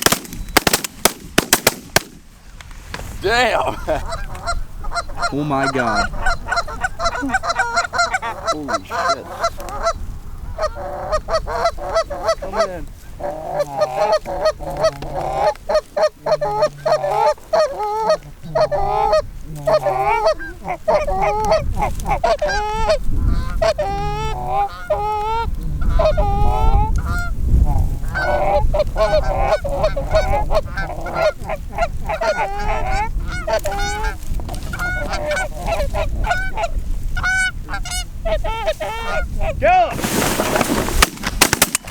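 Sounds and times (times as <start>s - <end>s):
geese honking: 3.6s - 41.9s.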